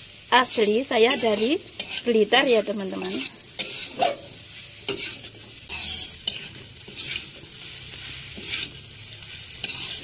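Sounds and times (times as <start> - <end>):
frying sizzle: 0.0 - 10.0
metal spatula scraping a wok: 0.4 - 10.0.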